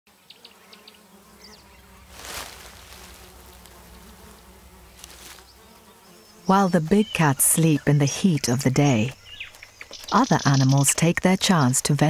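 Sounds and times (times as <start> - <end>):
flies buzzing: 0.1 - 12.0.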